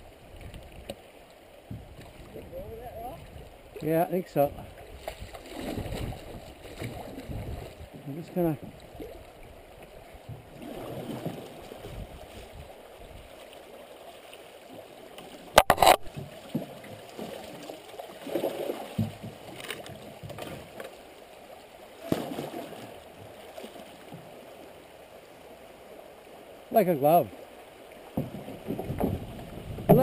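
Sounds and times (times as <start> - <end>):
canoe paddle strokes: 0.0 - 3.9, 4.6 - 26.2, 27.3 - 30.0
river water gurgling: 0.0 - 30.0.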